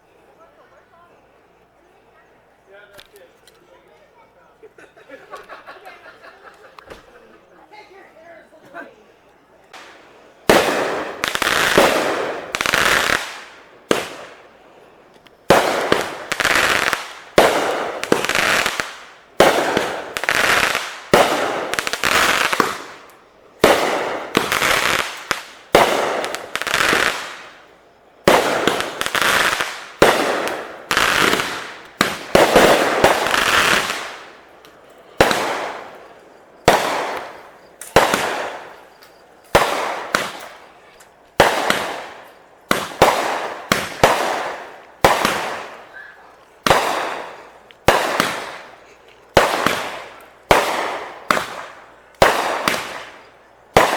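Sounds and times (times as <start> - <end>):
fireworks bangs: 9.7 - 53.9.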